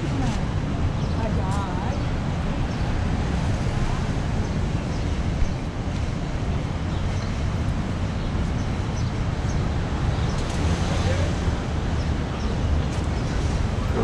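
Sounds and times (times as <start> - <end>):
street ambience low rumble: 0.0 - 14.0.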